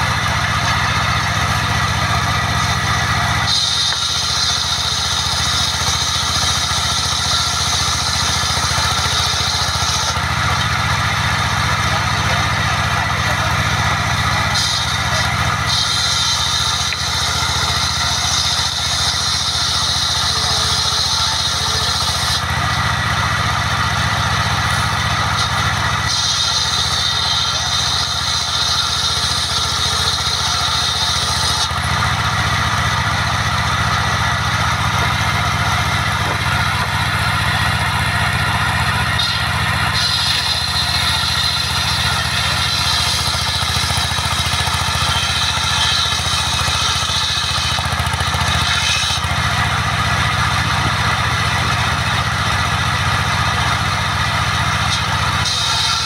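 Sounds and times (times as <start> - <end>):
saw hissing through timber: 0.0 - 56.0
sawmill engine running: 0.0 - 56.0.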